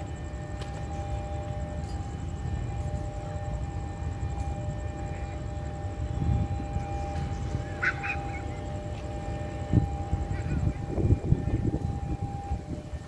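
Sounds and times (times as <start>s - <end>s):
level crossing alarm tone: 0.0s - 13.0s.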